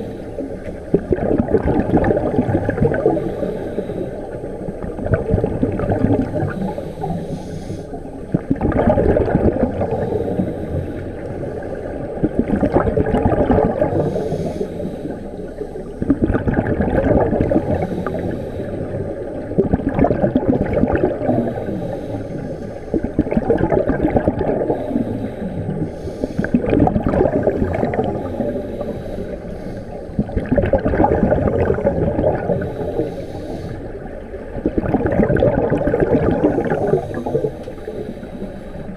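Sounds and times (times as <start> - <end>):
bubbling exhaled air underwater: 0.0 - 38.9.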